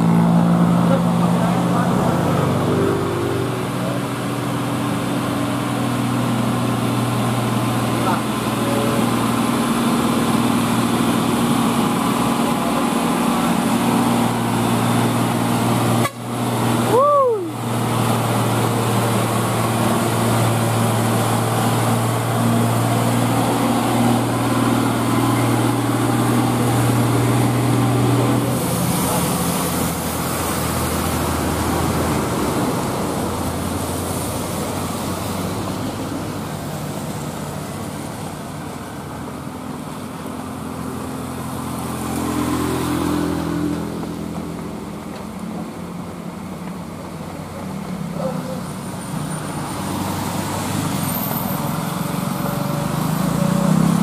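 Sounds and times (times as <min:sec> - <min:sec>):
truck diesel engine running lower: 0:00.0 - 0:54.0
truck diesel engine under load: 0:00.0 - 0:54.0
tyres hissing on wet road: 0:00.0 - 0:54.0.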